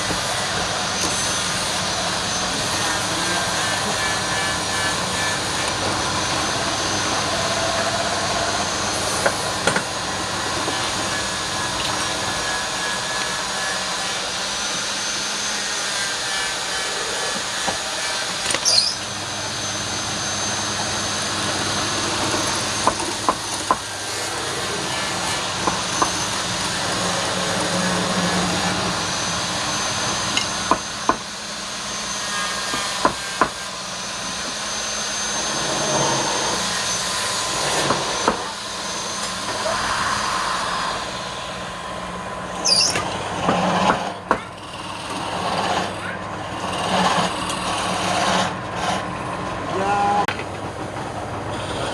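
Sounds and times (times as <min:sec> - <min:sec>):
wood lathe cutting wood: 0:00.0 - 0:51.9.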